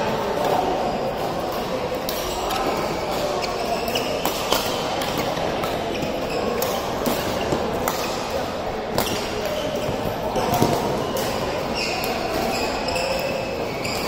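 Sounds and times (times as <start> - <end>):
din of play and voices: 0.0 - 14.0.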